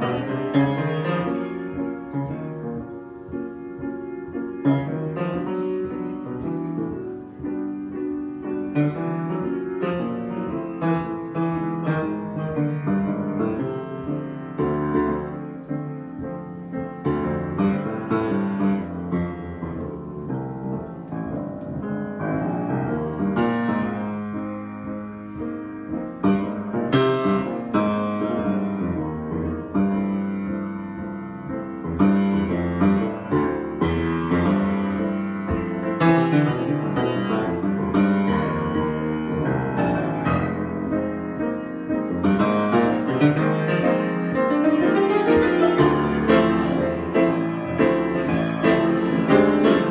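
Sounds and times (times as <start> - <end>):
solo piano improvisation: 0.0 - 49.9.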